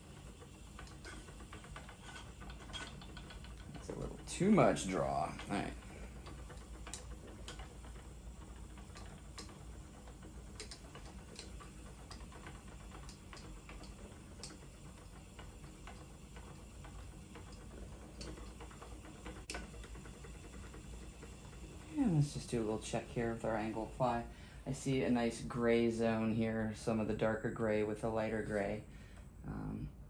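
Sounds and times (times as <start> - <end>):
low steady hum: 0.0 - 30.0
spinning wheel clicks and ticks: 0.0 - 30.0.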